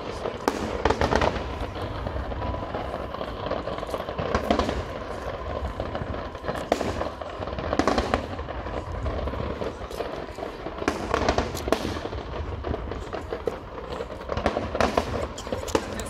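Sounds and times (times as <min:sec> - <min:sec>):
fireworks crackling: 0:00.0 - 0:16.0
sharp firework bangs: 0:00.0 - 0:16.0.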